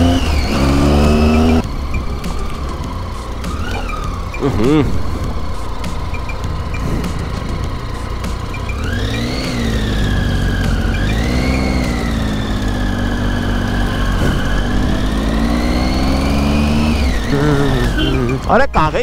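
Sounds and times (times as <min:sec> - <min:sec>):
engine whine: 0:00.0 - 0:19.0
motorcycle engine revving: 0:00.0 - 0:19.0.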